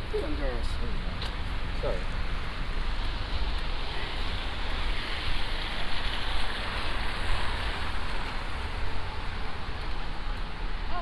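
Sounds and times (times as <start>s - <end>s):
rushing snowstorm noise: 0.0s - 11.0s.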